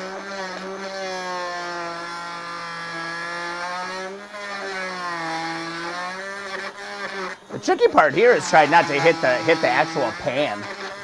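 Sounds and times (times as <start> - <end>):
whining power tool motor: 0.0 - 11.0.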